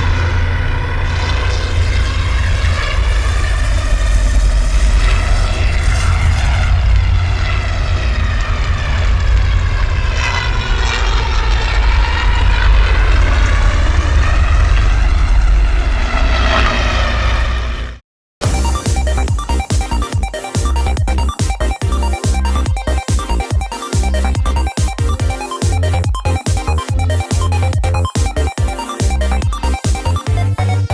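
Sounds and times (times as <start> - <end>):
deep engine rumble: 0.0 - 30.9
wavering whining hum: 0.0 - 30.9.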